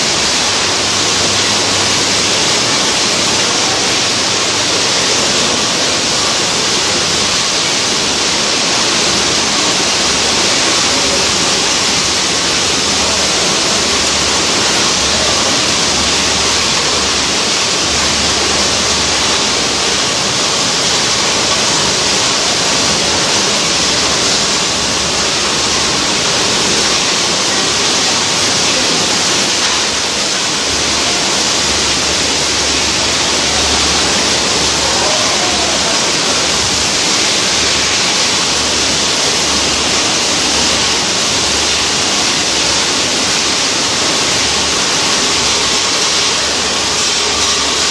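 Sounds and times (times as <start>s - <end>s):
canning line machinery din: 0.0s - 47.9s.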